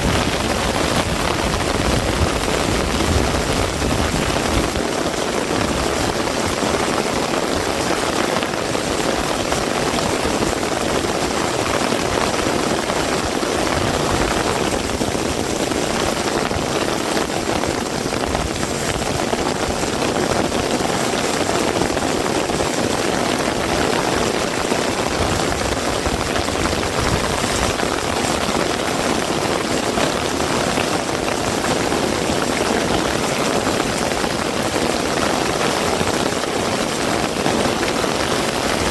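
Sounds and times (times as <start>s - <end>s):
heavy rain on surfaces: 0.0s - 38.9s.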